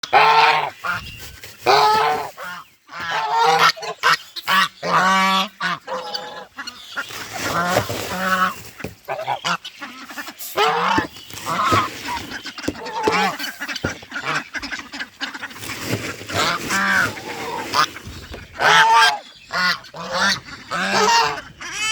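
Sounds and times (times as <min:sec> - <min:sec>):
geese honking: 0:00.0 - 0:01.0, 0:01.6 - 0:21.9.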